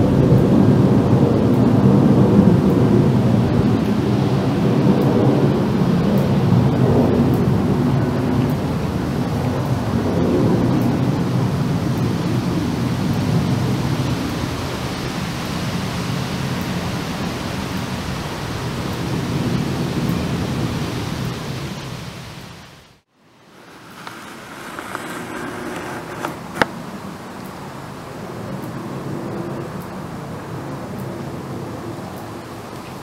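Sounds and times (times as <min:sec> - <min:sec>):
distant jet rumble with whine: 0:00.0 - 0:33.0
jet engines rumbling overhead: 0:00.0 - 0:33.0.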